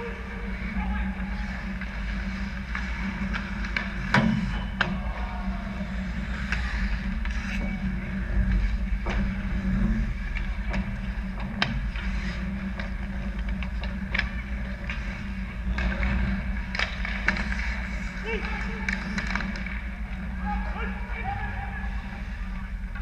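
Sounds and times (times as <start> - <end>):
steady low hum: 0.0 - 23.0
skates scraping ice: 0.5 - 23.0
hockey sticks and puck clacking: 1.4 - 7.6, 8.5 - 21.3.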